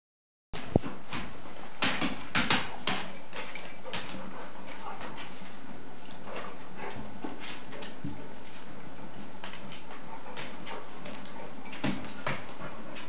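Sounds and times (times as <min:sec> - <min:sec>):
dogs whimpering: 0:01.4 - 0:13.0.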